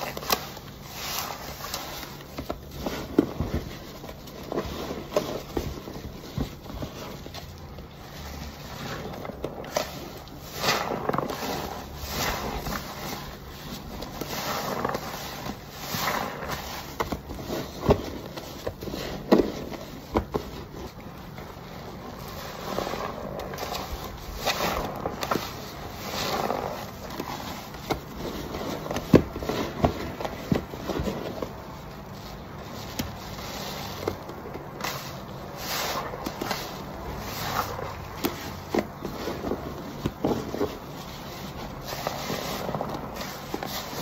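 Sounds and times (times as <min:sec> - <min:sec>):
foam crackling: 0:00.0 - 0:44.0
wet sponge squelching: 0:00.0 - 0:44.0.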